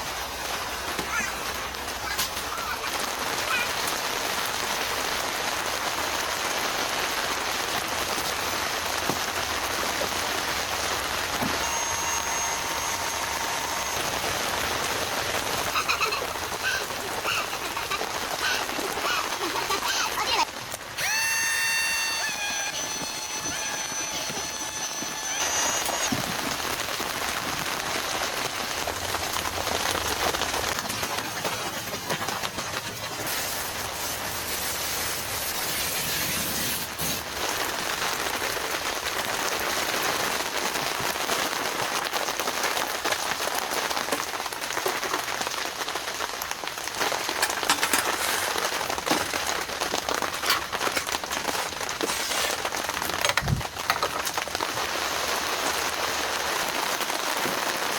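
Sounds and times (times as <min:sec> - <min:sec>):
heavy rain: 0:00.0 - 0:57.9.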